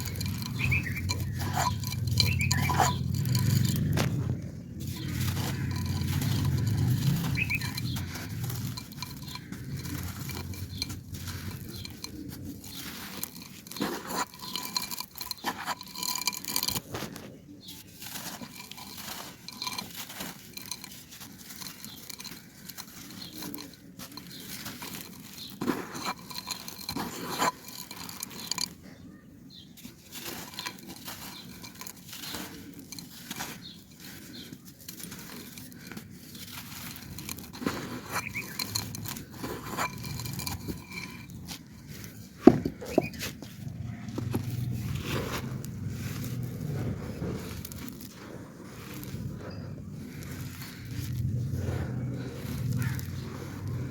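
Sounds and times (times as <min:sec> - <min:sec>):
clay fragments crunching: 0:00.0 - 0:53.9.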